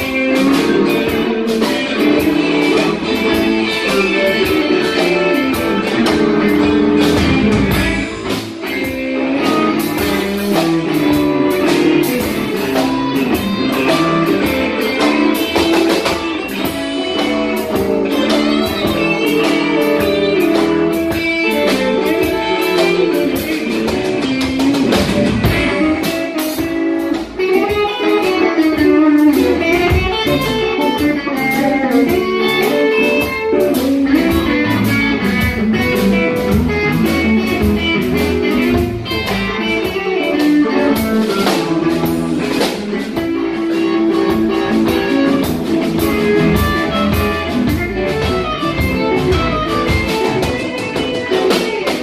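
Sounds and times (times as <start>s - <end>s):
guitar: 0.0s - 52.0s
live blues band playing: 0.0s - 52.0s.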